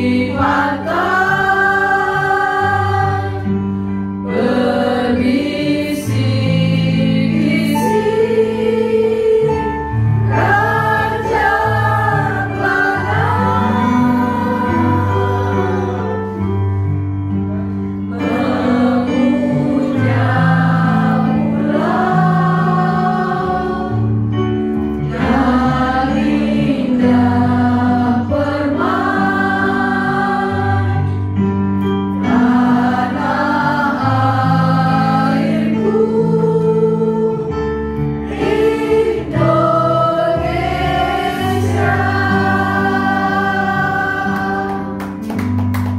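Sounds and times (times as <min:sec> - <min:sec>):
mixed choir singing: 0:00.0 - 0:16.6, 0:18.1 - 0:45.3.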